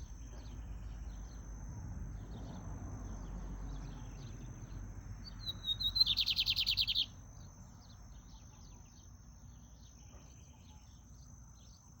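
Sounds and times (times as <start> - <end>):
bird singing a trill: 0.0 - 12.0.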